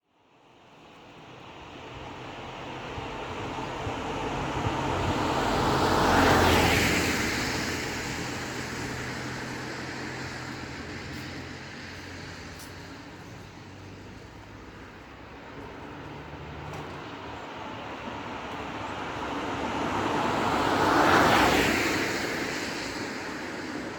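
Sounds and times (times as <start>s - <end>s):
road vehicle passing by: 1.4s - 23.9s.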